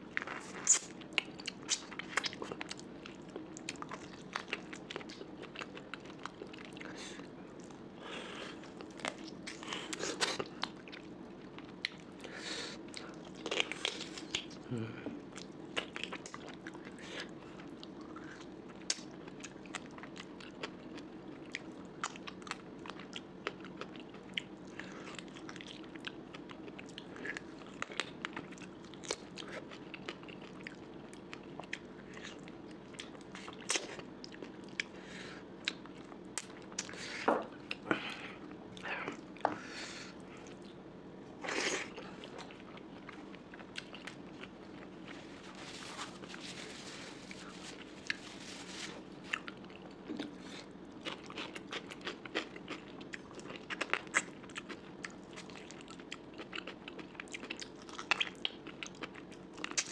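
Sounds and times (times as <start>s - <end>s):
steady low hum: 0.0s - 59.7s
person chewing and crunching: 0.1s - 12.3s, 12.9s - 35.0s, 41.4s - 59.9s.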